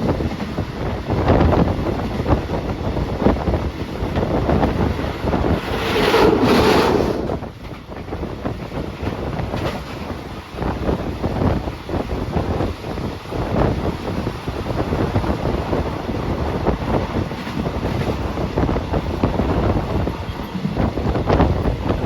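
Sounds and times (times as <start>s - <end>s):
moving train rumble and clatter: 0.0s - 22.0s
wind buffeting microphone: 0.0s - 22.0s.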